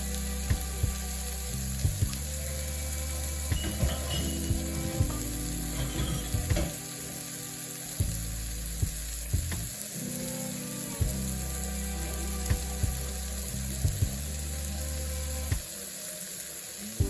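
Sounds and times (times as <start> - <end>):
background music: 0.0 - 17.0
food sizzling in a pan: 0.0 - 17.0.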